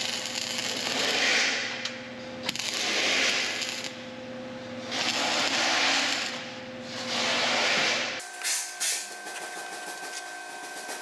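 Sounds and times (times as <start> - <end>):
welding arc crackling and hissing: 0.0 - 4.0, 4.9 - 6.5, 7.3 - 11.0
steady hum: 0.0 - 11.0.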